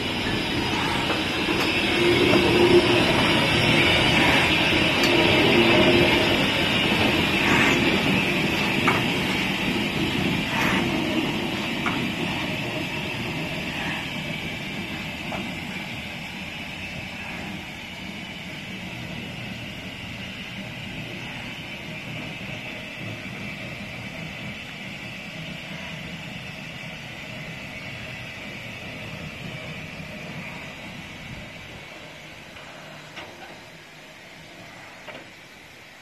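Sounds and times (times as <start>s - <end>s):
steam hissing: 0.0s - 36.0s.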